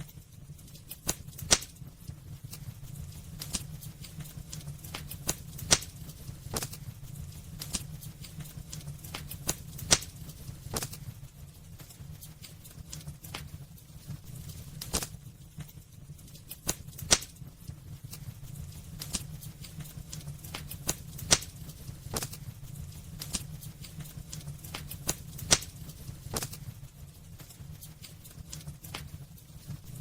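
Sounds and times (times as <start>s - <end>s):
firewood crackling and popping: 0.0s - 30.0s
low rumble of fire: 0.0s - 30.0s.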